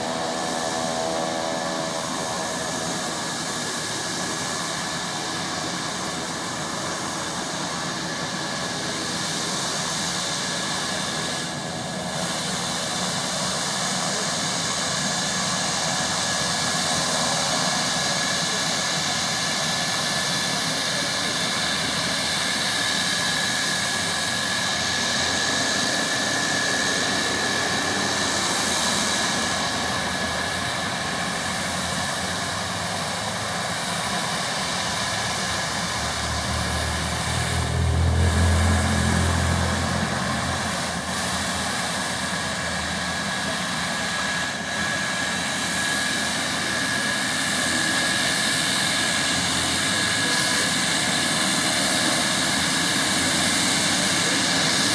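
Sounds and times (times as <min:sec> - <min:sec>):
propeller noise: 0:00.0 - 0:54.9
turbine whine: 0:00.0 - 0:54.9.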